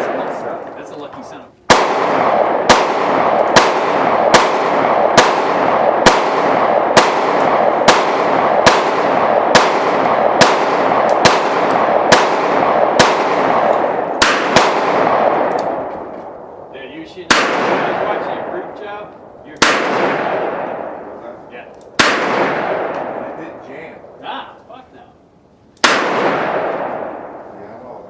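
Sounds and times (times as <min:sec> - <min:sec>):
gunshots: 0:00.0 - 0:01.0, 0:01.7 - 0:16.6, 0:17.3 - 0:24.3, 0:25.8 - 0:27.5
shooting range din: 0:00.0 - 0:28.0.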